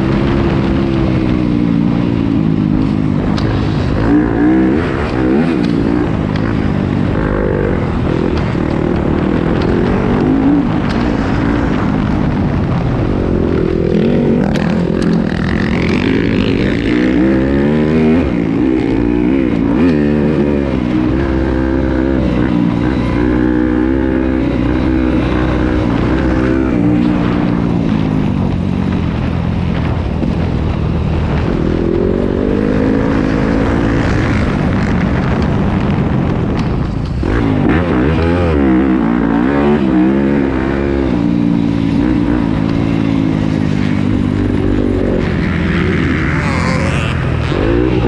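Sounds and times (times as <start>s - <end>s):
motocross engine revving: 0.0s - 28.3s, 37.2s - 48.0s.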